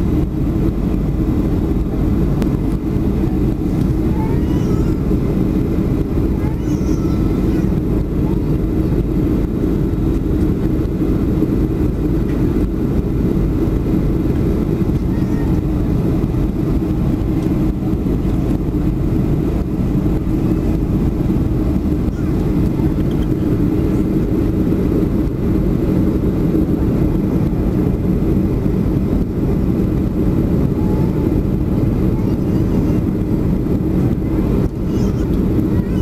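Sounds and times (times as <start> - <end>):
aircraft cabin engine drone: 0.0 - 36.0
low hum: 0.0 - 36.0
rushing airflow: 0.0 - 36.0.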